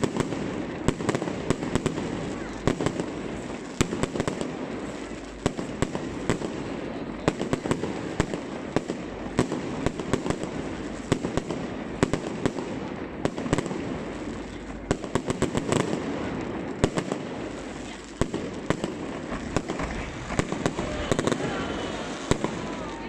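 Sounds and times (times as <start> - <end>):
fireworks bangs and cracks: 0.0 - 23.0.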